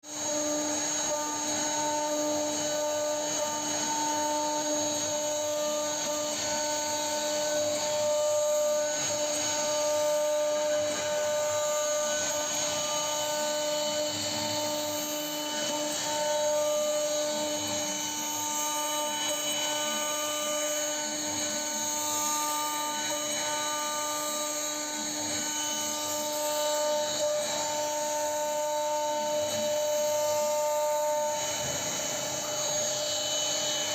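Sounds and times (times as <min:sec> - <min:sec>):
router spindle whine: 0:00.0 - 0:33.9.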